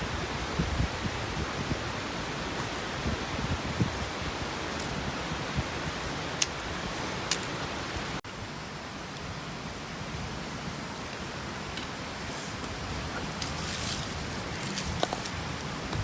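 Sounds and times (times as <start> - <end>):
wood fire crackling: 0.3 - 16.0.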